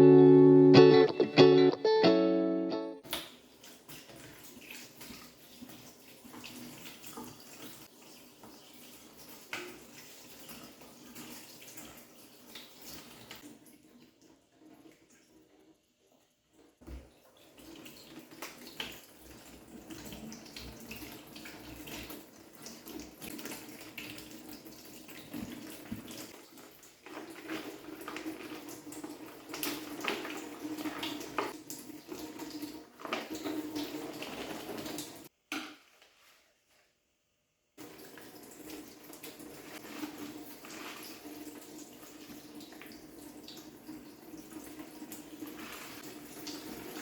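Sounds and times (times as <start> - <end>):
tap water running into sink: 3.0 - 35.8, 37.8 - 47.0.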